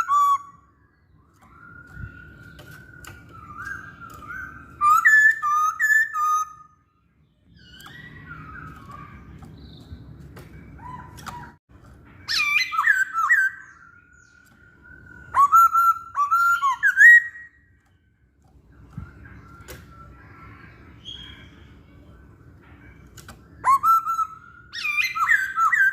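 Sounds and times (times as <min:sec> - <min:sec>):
bird whistled song phrases: 0:00.0 - 0:11.6, 0:12.2 - 0:18.0, 0:19.0 - 0:22.0, 0:23.5 - 0:25.9
quiet bird chirps: 0:00.0 - 0:25.9.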